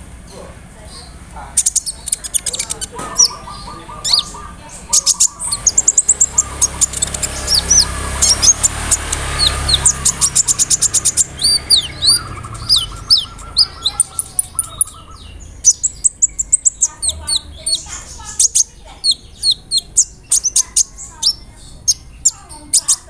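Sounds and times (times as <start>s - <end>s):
bird singing fast varied song: 0.2s - 23.0s.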